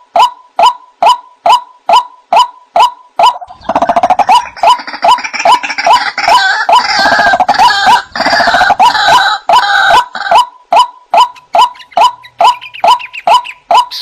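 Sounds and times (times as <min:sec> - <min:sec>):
harsh croaking bird calls: 0:00.2 - 0:14.0.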